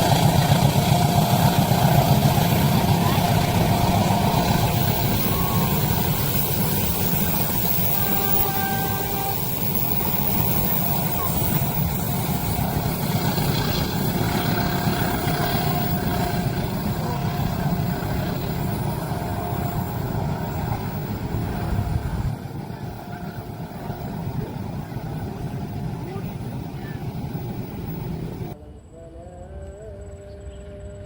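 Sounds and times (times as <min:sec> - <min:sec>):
train rumbling over rails: 0:00.0 - 0:28.6.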